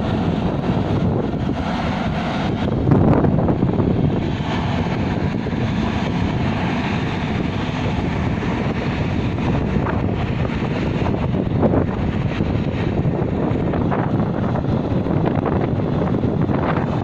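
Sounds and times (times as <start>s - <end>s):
ship low rumble: 0.0s - 17.0s
wind noise on microphone: 0.0s - 17.0s.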